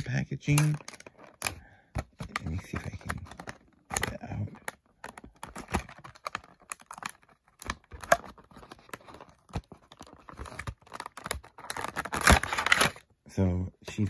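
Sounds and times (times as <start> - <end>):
plastic packaging crackling: 0.0 - 1.6, 2.2 - 13.1.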